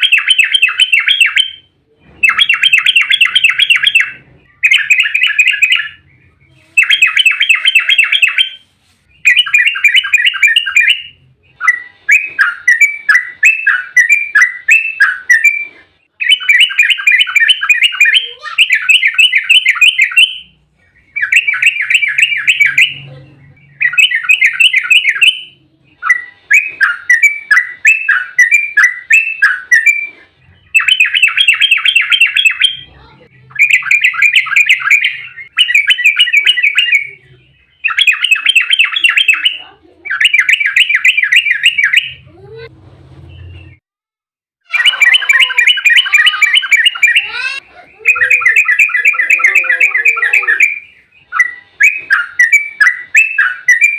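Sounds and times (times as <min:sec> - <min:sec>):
bird singing chattering phrases: 0:00.0 - 0:08.6, 0:09.2 - 0:42.7, 0:44.7 - 0:53.9.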